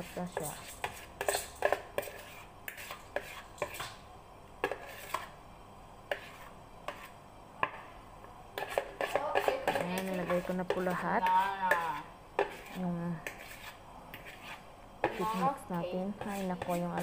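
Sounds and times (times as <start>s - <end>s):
spoon scraping plastic bowl: 0.0s - 4.0s, 4.6s - 5.4s, 6.1s - 7.2s, 8.6s - 15.6s, 16.2s - 17.0s.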